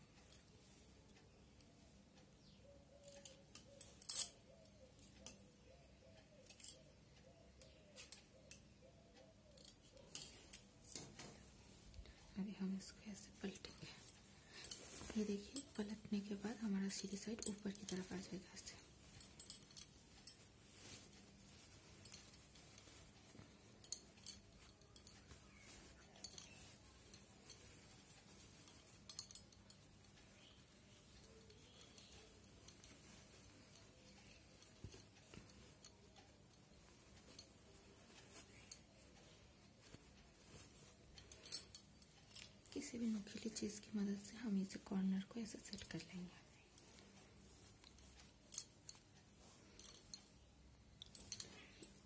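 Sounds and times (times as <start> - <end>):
fabric rustling and scraping: 9.6 - 52.0.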